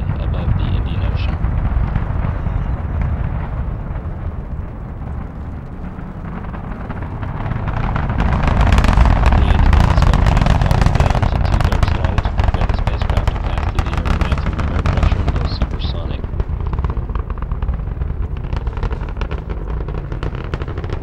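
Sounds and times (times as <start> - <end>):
rapid rocket crackling: 0.0 - 21.0
rocket engines rumbling: 0.0 - 21.0.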